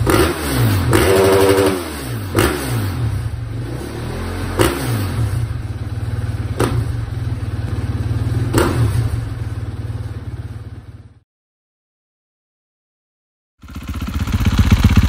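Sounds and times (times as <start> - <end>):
motorcycle engine running: 0.0 - 11.2, 13.6 - 15.0.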